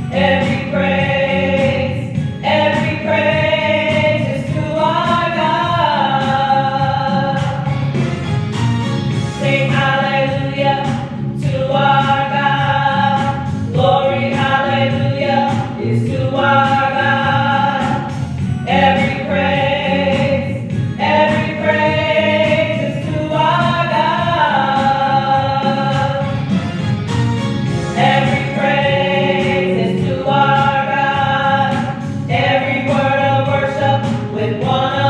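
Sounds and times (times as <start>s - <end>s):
gospel choir singing: 0.0s - 8.2s, 9.1s - 35.0s
instrumental accompaniment: 0.0s - 35.0s.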